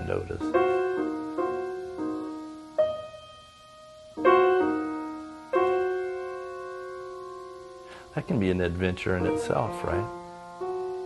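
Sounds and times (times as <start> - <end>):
slow soft piano chords: 0.0 - 11.0.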